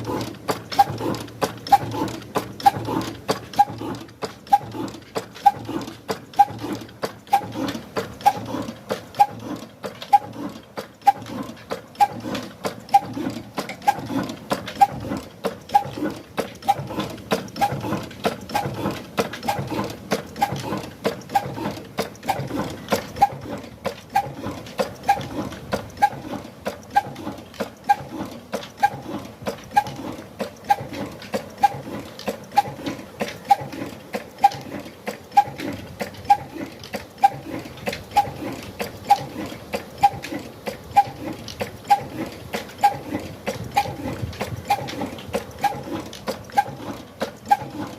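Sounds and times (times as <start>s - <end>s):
rapid clicking: 0.0s - 47.9s.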